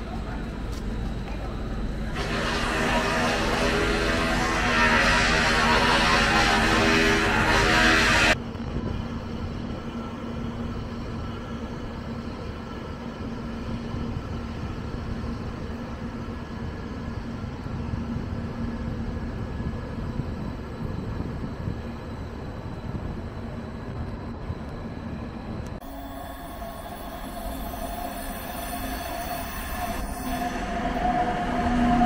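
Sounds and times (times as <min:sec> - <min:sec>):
constant low hum: 0:00.0 - 0:26.0
train rumbling: 0:00.0 - 0:32.0.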